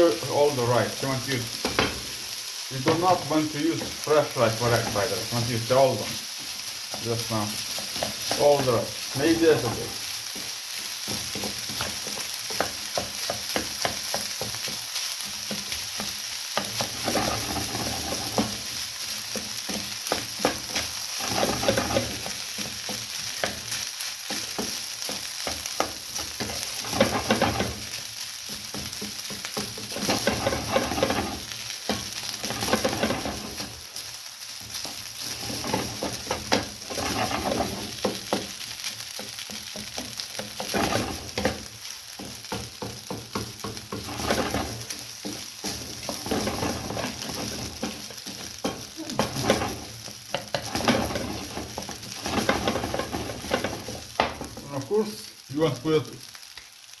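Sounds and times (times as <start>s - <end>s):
stirring and scraping in pan: 0.0s - 55.5s
rice sizzling in a pan: 0.0s - 57.0s.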